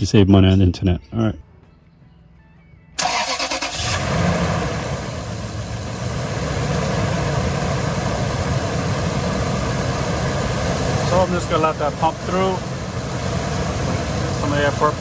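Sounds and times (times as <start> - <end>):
engine cranking and idling: 3.0 - 15.0.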